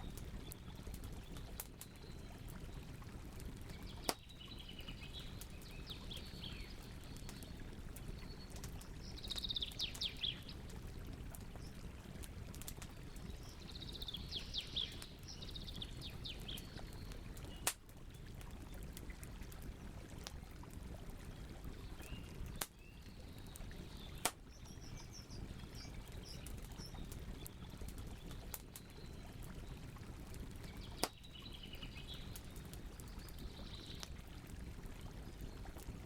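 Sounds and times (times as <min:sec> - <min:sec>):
bird chirping softly: 0:00.0 - 0:20.1, 0:21.2 - 0:36.0
campfire crackling: 0:00.0 - 0:36.0.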